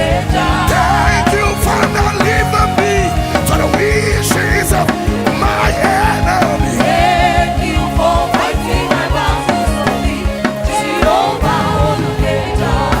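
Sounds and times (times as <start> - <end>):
gospel voices singing with band: 0.0 - 13.0.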